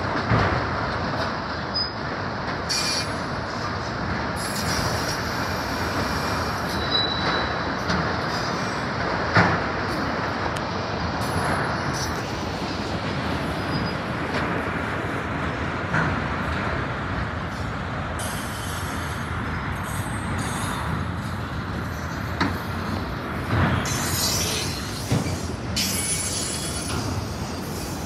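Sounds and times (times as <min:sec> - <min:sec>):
sharp knocks of rail cars: 0:00.0 - 0:28.0
train wheels rumbling on rails: 0:00.0 - 0:28.0.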